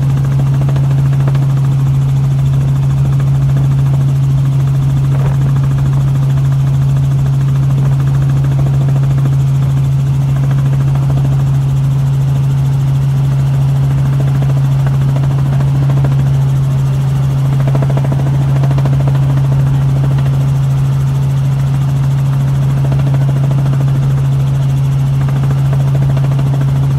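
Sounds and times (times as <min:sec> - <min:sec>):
aircraft hum in flight: 0:00.0 - 0:26.9.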